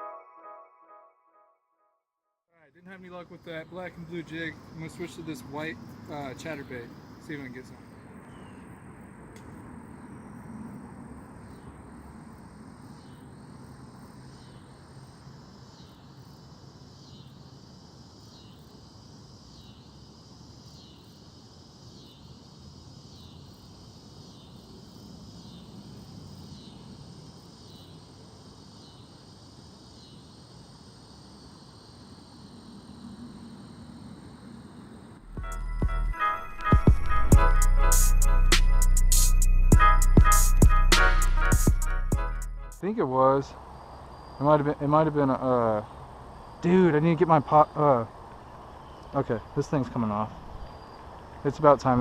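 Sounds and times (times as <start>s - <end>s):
high insect whine: 2.9s - 52.0s
insect rasping chirp: 2.9s - 52.0s.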